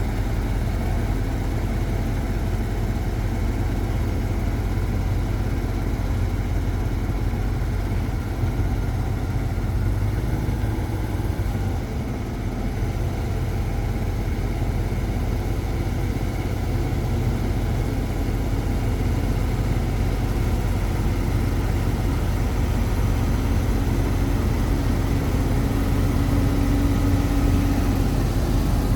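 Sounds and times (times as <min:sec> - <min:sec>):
truck engine idling: 0:00.0 - 0:28.9.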